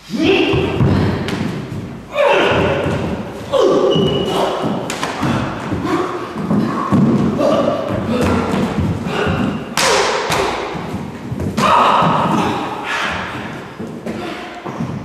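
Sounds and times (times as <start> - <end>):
bodies thumping in fight: 0.5 - 15.0
feet stamping on floor: 0.5 - 15.0.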